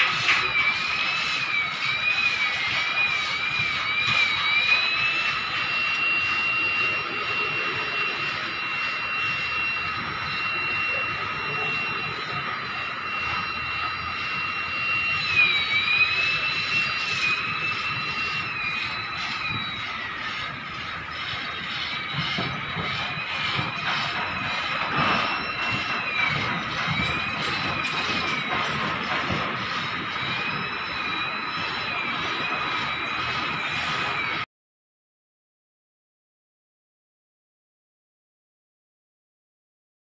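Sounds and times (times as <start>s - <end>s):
drone propellers whining: 0.0s - 34.5s.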